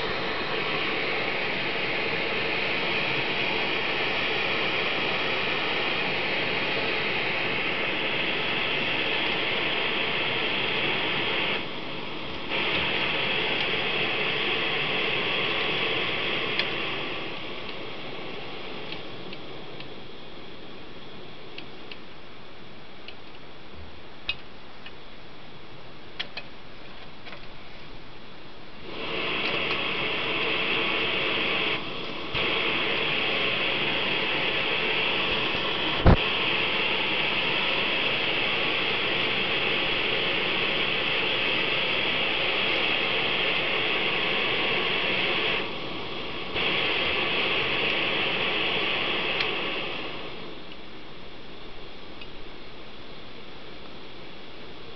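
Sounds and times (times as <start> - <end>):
stove burner hissing: 0.0 - 54.9.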